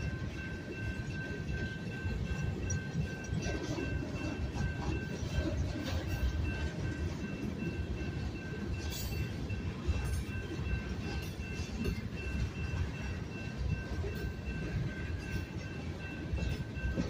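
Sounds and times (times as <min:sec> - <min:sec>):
crossing bell ringing: 0:00.0 - 0:17.0
freight train rumbling and clanking: 0:00.0 - 0:17.0.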